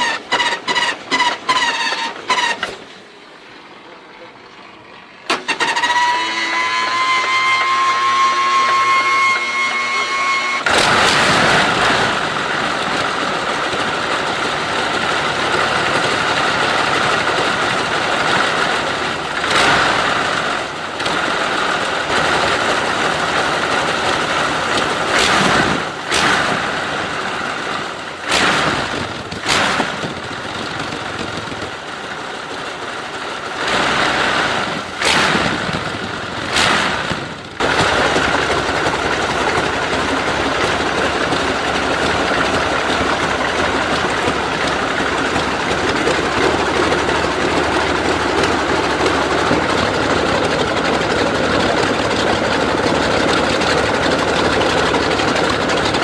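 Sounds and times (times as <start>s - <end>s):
car engine revving: 5.3s - 56.0s.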